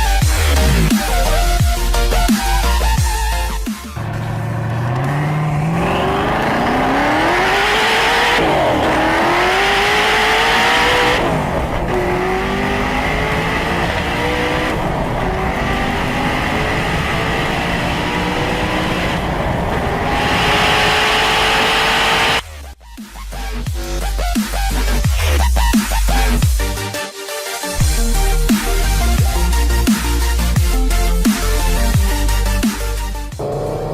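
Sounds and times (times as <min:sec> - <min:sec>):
car engine accelerating: 0:00.0 - 0:26.9, 0:27.7 - 0:33.9.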